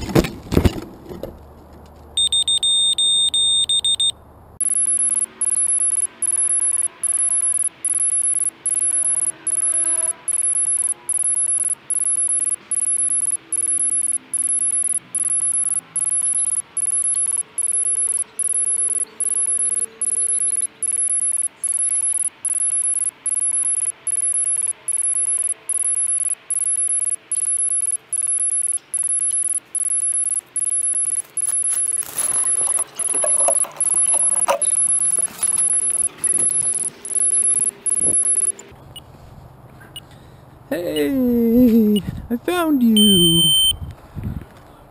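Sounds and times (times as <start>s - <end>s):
high-pitched buzzer beeping: 2.2s - 38.8s, 43.0s - 43.8s.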